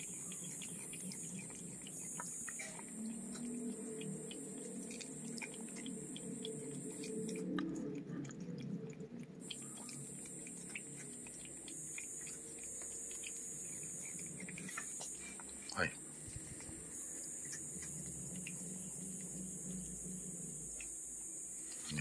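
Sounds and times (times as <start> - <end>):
wet tongue clicks: 0.0 - 15.8, 16.5 - 19.9
cat licking and chewing: 0.0 - 22.0
steady low hum: 0.0 - 22.0.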